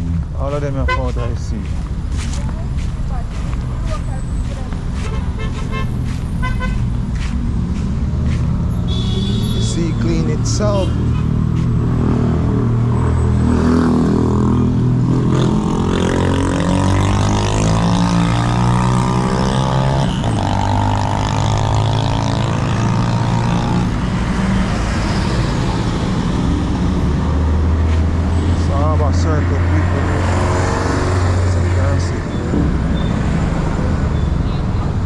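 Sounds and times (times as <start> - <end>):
low road rumble: 0.0 - 35.0.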